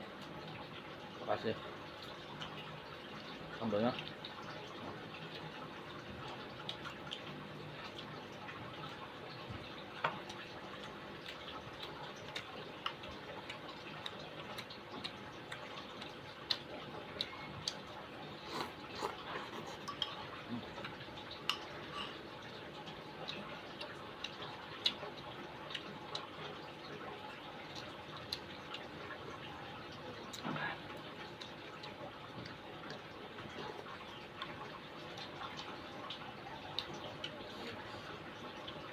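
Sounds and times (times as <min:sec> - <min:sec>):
faint steady hum: 0:00.0 - 0:38.9
eating sounds with sharp clicks: 0:04.0 - 0:38.9.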